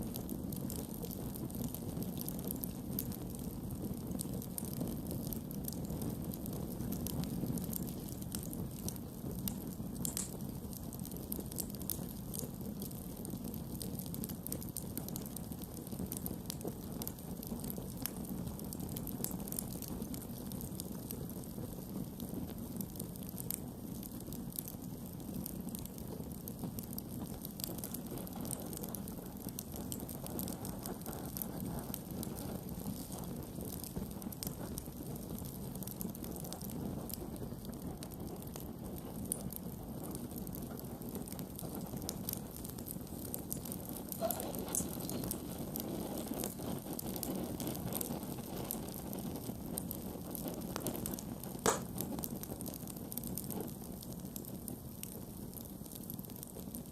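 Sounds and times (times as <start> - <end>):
campfire crackling and popping: 0.0 - 56.9.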